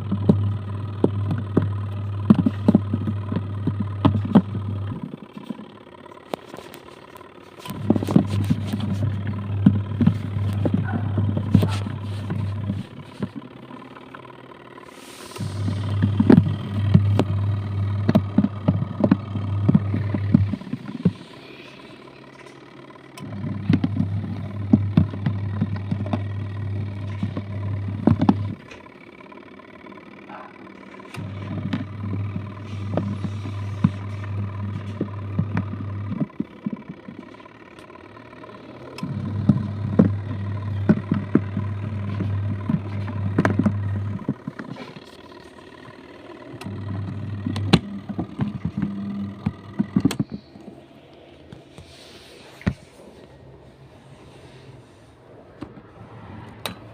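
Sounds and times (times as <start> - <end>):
washing machine motor humming: 0.0 - 56.9.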